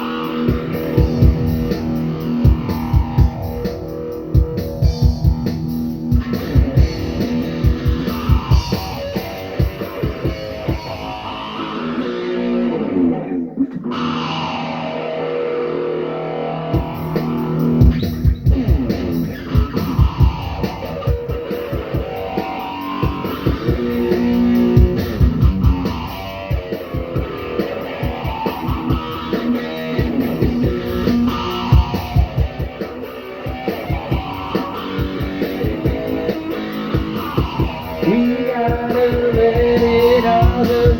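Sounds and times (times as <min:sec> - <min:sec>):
drums: 0:00.0 - 0:40.9
electric guitar and bass: 0:00.0 - 0:40.9.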